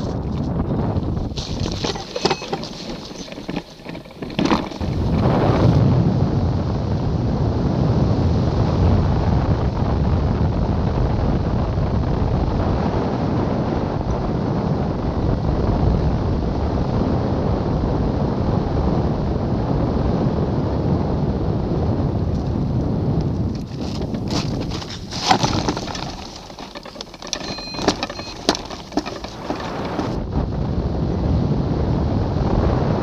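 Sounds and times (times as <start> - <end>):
wind noise on microphone: 0.0 - 33.0.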